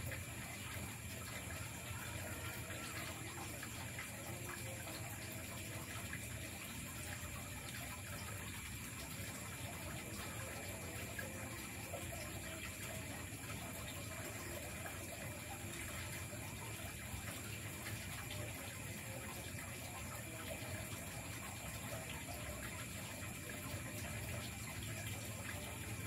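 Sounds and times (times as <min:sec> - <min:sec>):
insects calling: 0:00.0 - 0:26.0.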